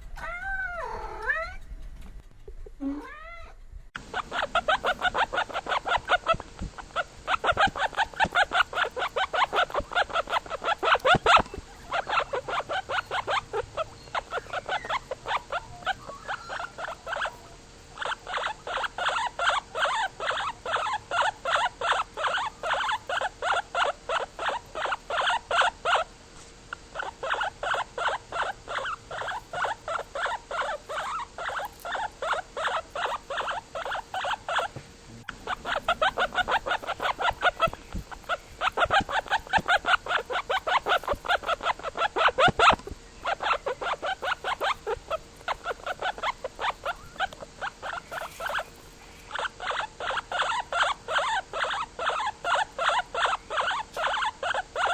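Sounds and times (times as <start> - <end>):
animal calling rapidly: 4.0 - 26.1, 26.8 - 54.9.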